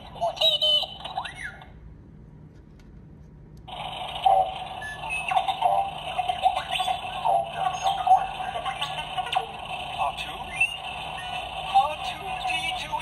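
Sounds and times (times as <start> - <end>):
tinny recorded chattering from toy speaker: 0.0 - 1.8, 3.7 - 13.0.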